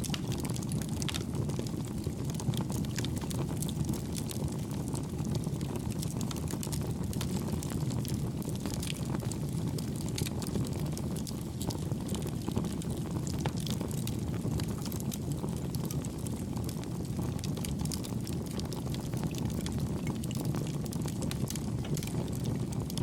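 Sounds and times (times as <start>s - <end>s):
campfire crackles and pops: 0.0s - 23.0s
campfire flames rumbling: 0.0s - 23.0s.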